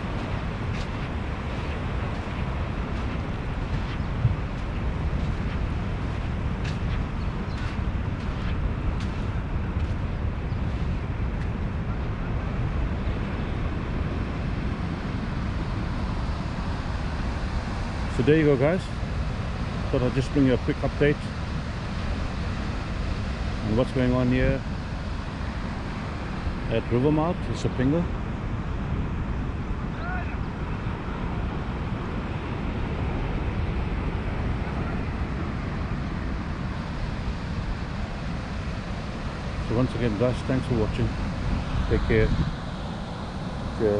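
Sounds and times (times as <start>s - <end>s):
open-air roar: 0.0s - 43.9s
surf rushing: 0.0s - 43.9s
wind buffeting microphone: 0.0s - 43.9s.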